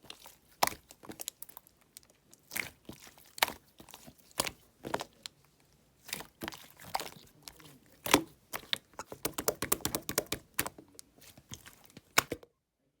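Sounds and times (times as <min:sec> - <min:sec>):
slime squished by hand: 0:00.0 - 0:12.4.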